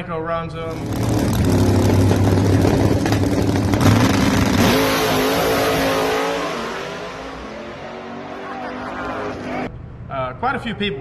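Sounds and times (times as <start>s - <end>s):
race car engine at full throttle: 0.7s - 9.7s.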